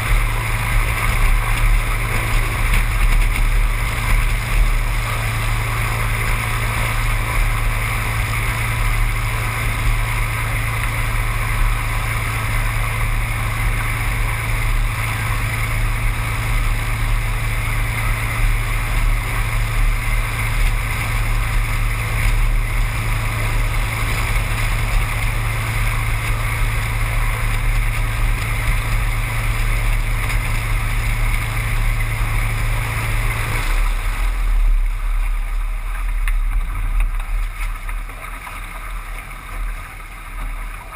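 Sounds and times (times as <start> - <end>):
propeller engine droning: 0.0 - 40.9.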